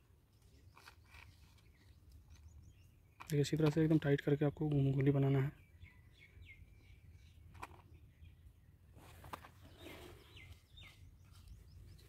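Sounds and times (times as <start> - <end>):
bird chirping faintly: 0.2 - 12.0.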